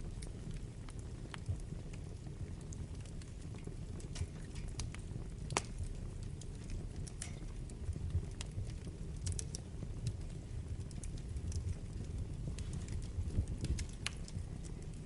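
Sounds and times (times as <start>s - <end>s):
wood fire crackling in fireplace: 0.0s - 15.0s.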